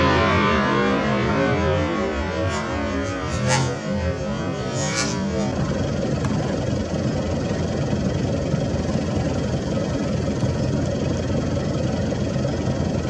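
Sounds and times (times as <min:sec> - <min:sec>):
vehicle engine rumbling: 0:02.5 - 0:13.0.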